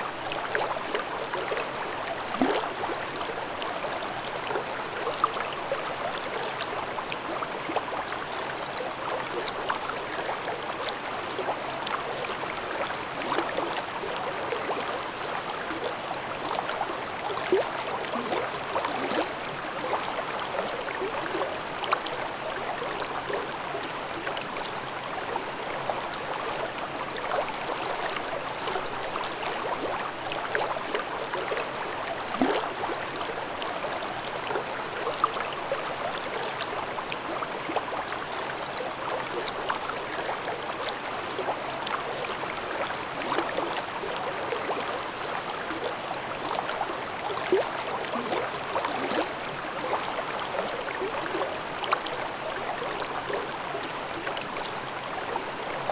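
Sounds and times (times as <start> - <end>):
stream babbling: 0.1 - 55.9.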